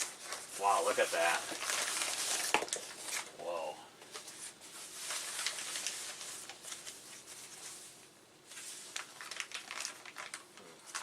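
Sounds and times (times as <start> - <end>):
plastic bag crinkling: 0.0 - 3.4, 4.2 - 11.0.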